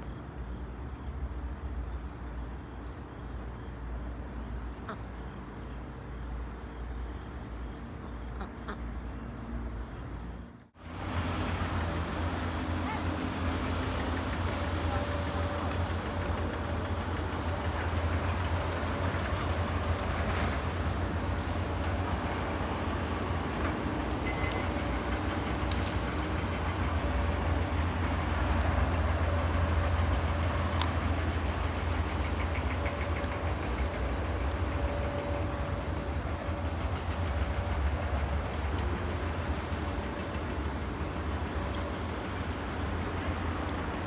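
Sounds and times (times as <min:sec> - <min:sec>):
moving vehicle rumble: 0:00.0 - 0:44.0.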